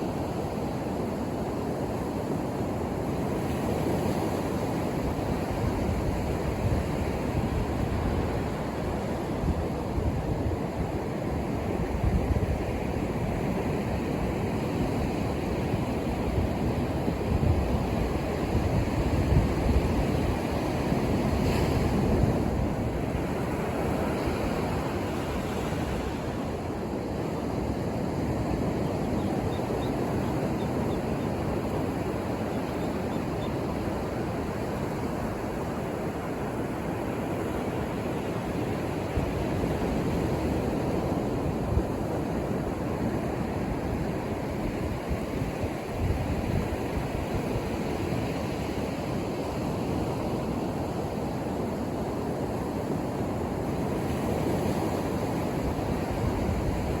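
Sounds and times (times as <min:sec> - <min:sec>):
ocean surf breaking on beach: 0:00.0 - 0:57.0
wind on microphone: 0:03.0 - 0:57.0.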